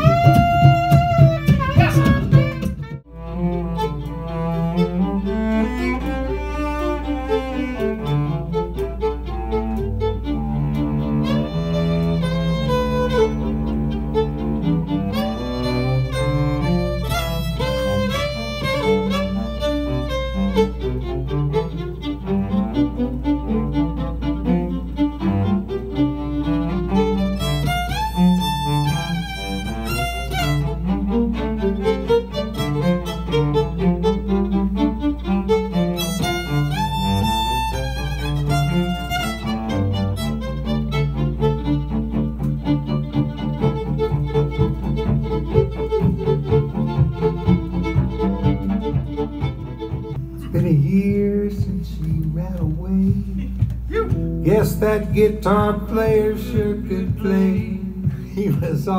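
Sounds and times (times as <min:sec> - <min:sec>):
cello playing: 0:00.0 - 0:58.9
fiddle melody: 0:00.0 - 0:58.9
steady low hum: 0:00.0 - 0:58.9.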